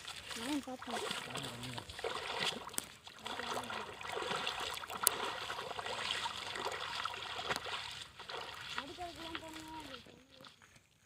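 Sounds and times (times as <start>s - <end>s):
feet wading through muddy water: 0.0s - 11.0s.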